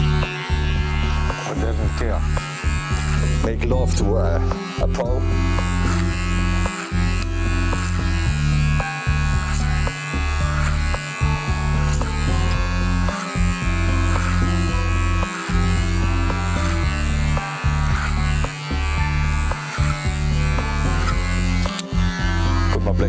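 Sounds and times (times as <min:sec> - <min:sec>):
background music: 0:00.0 - 0:23.0
electric hair clipper buzzing: 0:00.0 - 0:23.0.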